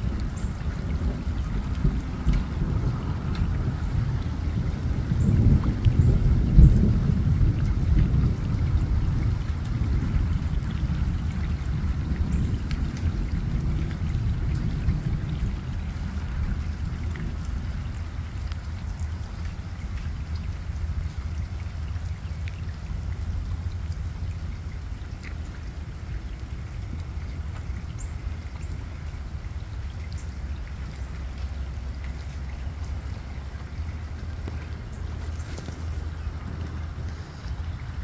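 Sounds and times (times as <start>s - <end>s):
rain and runoff trickling: 0.0s - 38.0s
water dripping: 0.0s - 38.0s.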